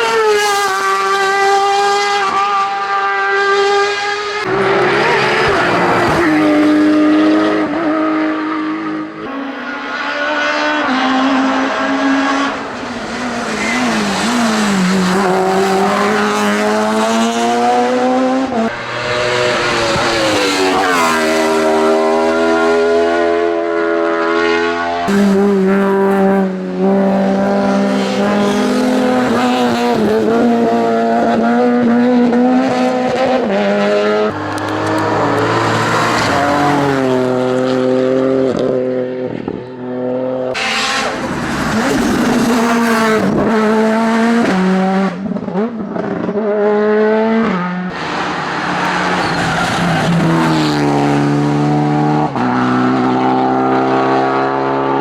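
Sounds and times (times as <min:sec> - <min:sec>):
race car engines at full throttle: 0:00.0 - 0:55.0.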